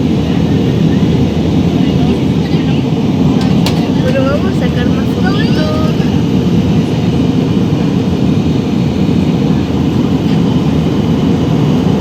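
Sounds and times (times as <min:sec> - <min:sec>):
airplane cabin engine noise: 0:00.0 - 0:12.0.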